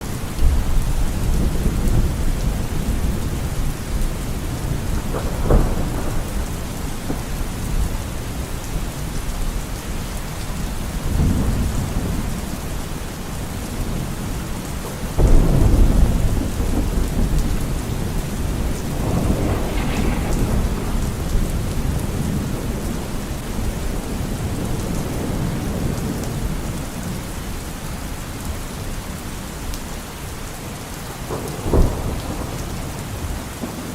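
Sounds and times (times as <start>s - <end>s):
heavy rain falling: 0.0s - 33.9s
thunder rumbling: 0.2s - 27.5s, 31.2s - 33.9s.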